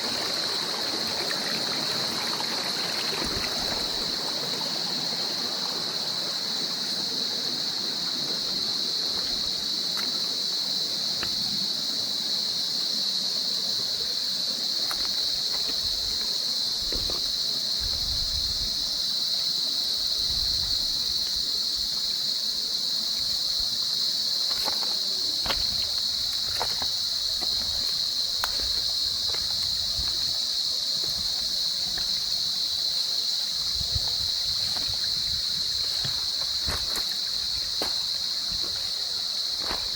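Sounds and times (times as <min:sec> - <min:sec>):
stream water splashing over rocks: 0:00.0 - 0:12.0, 0:13.5 - 0:18.0, 0:24.4 - 0:39.9
high-pitched hiss: 0:00.0 - 0:39.9.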